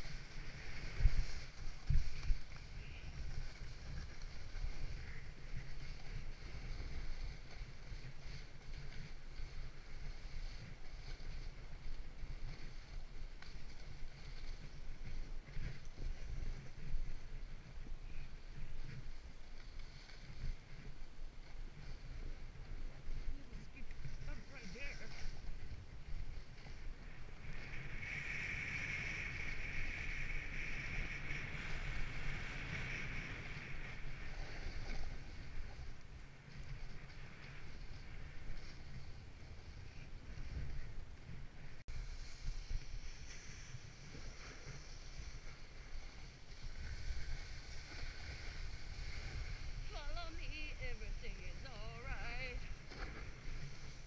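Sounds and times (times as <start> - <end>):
sled sliding on snow: 0.0 - 54.0
wind on microphone: 0.0 - 54.0.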